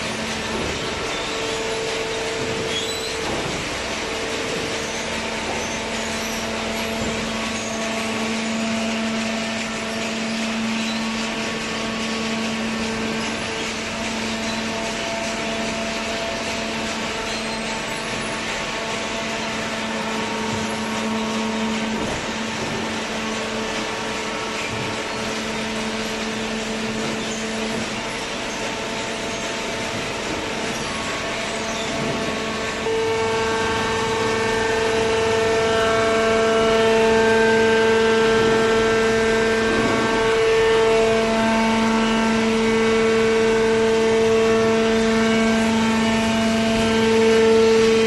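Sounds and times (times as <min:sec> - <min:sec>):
shredding machinery running: 0:00.0 - 0:48.0.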